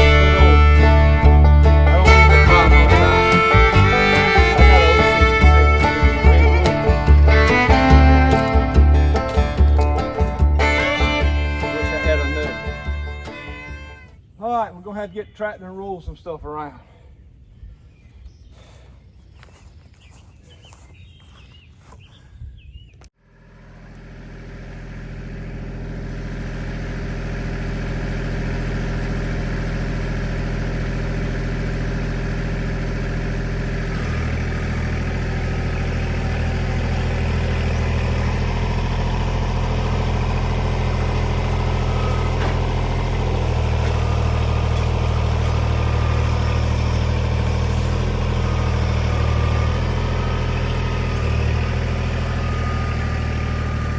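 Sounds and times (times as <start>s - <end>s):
tractor engine running: 0.0s - 14.4s, 23.1s - 53.9s.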